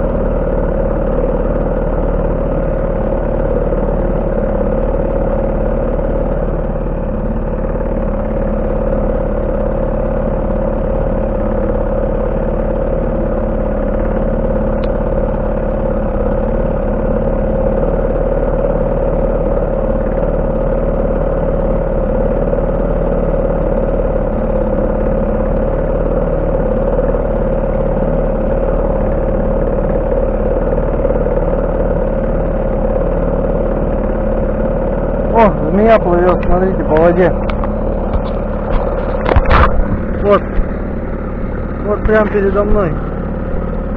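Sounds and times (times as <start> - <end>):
outboard motor running: 0.0 - 43.9.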